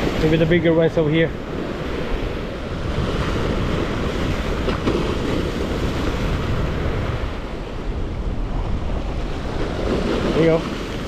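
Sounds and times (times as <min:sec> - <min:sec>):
surf washing against jetty: 0:00.0 - 0:11.0
wind on microphone: 0:00.0 - 0:11.0.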